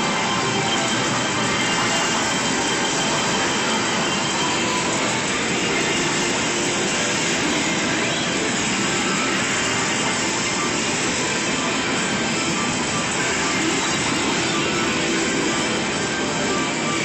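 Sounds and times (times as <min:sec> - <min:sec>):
arcade game machines and music: 0:00.0 - 0:17.0.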